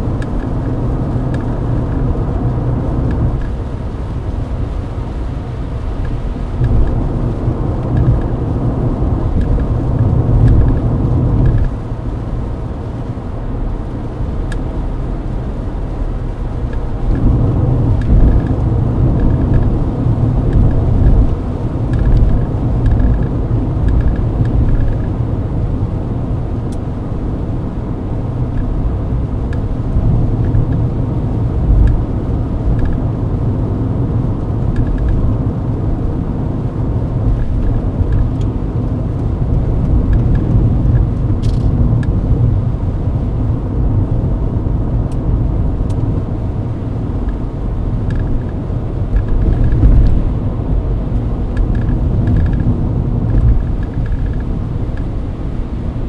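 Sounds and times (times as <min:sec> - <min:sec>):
faint regular ticking: 0:00.0 - 0:25.3, 0:26.6 - 0:36.1, 0:44.9 - 0:55.3
engine and tyre rumble: 0:00.0 - 0:56.0.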